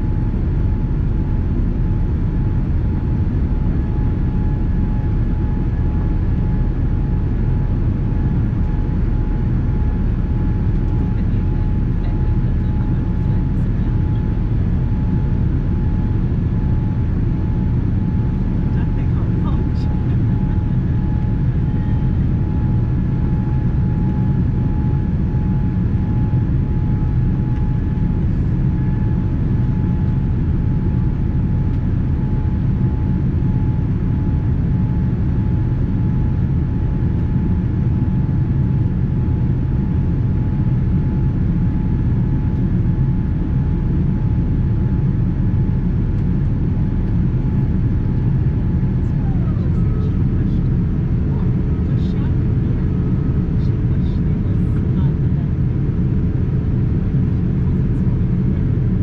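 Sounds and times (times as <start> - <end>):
airliner engine rumble: 0.0 - 59.0.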